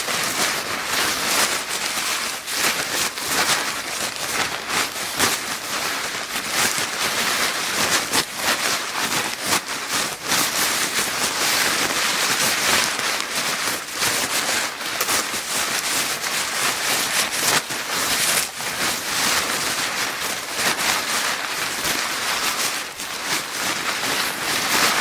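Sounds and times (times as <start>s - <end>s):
paper bag crinkling: 0.0s - 25.0s.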